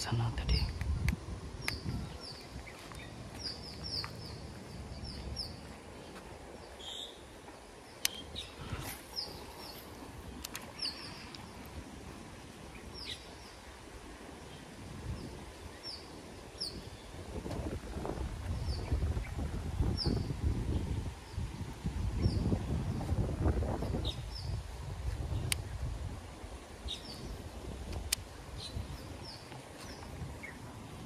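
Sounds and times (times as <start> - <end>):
faint outdoor background noise: 0.0 - 31.0
small birds chirping: 0.0 - 31.0.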